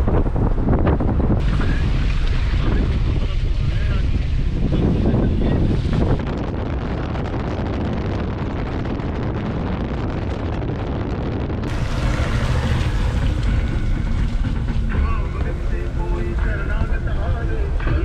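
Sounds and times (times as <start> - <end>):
car road rumble: 0.0 - 18.0
wind buffeting microphone: 0.0 - 18.0.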